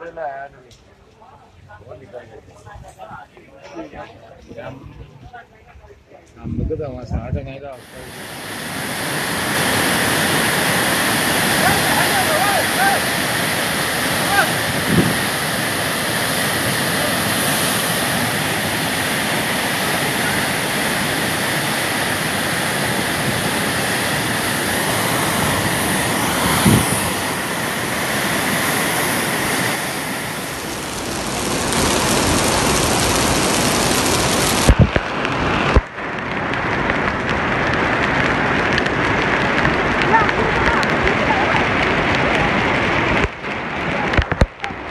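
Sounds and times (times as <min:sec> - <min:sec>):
flood torrent rushing: 0:07.6 - 0:44.9.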